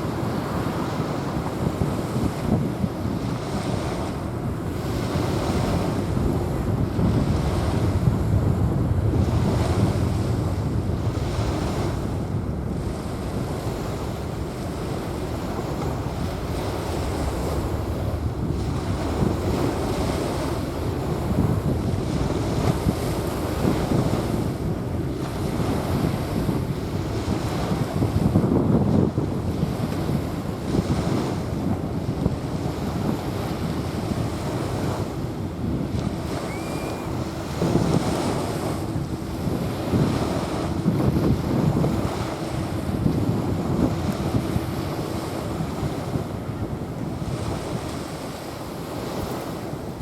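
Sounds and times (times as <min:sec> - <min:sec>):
small waves washing onto sand: 0:00.0 - 0:50.0
wind rumbling on microphone: 0:00.0 - 0:50.0.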